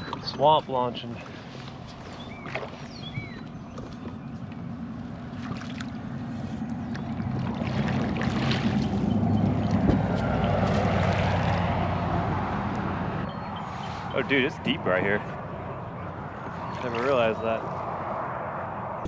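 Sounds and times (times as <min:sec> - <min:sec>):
water noise: 0:00.0 - 0:19.0.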